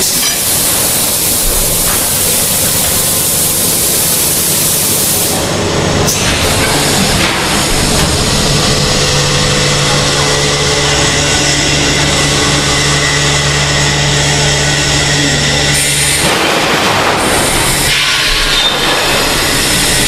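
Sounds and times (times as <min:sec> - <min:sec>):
continuous rushing noise: 0:00.0 - 0:20.0
machine mechanical hum: 0:00.0 - 0:20.0.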